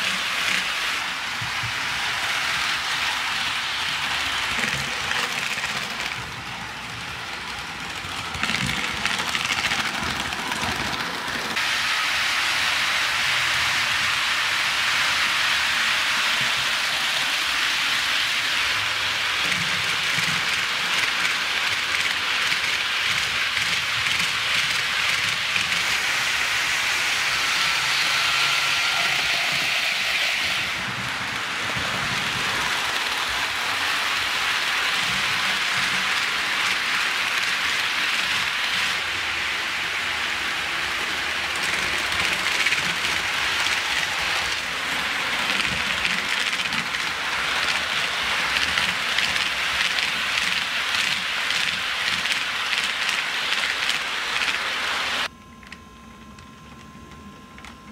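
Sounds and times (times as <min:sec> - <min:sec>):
model train wheels clattering on rails: 0:00.0 - 0:11.7, 0:13.2 - 0:55.2.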